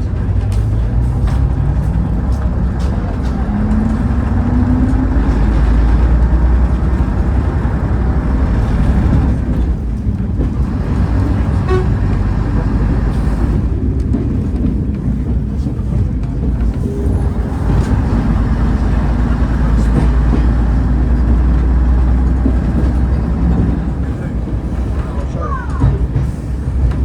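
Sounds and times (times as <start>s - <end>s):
diesel railcar rumble: 0.0s - 27.0s.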